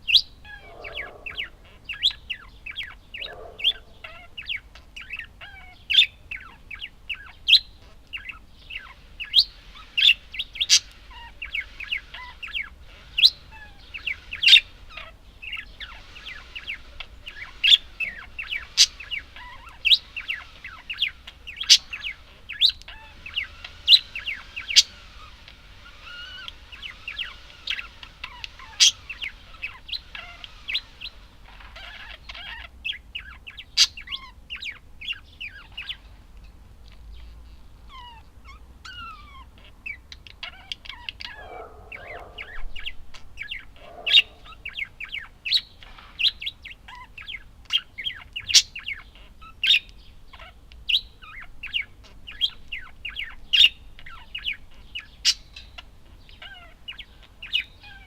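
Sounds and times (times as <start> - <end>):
budgerigars chirping: 0.0 - 36.2, 36.9 - 58.0
rough low bird calls: 0.0 - 36.2, 36.8 - 58.0.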